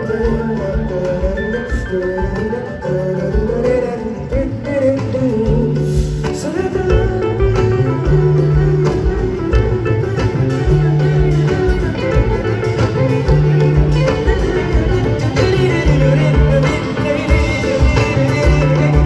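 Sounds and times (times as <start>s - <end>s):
guitars: 0.0s - 19.0s
steady percussion beat: 0.0s - 19.0s.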